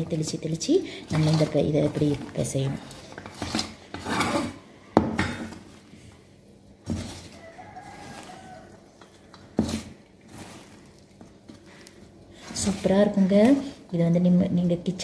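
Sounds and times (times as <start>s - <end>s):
hand squishing batter in bowl: 0.0s - 4.6s, 5.5s - 15.0s.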